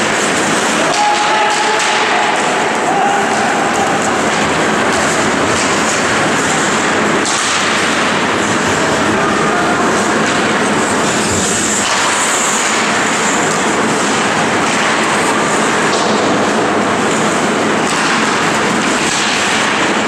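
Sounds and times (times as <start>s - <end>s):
ice rink game ambience: 0.0s - 20.0s
skate blades scraping on ice: 0.0s - 20.0s.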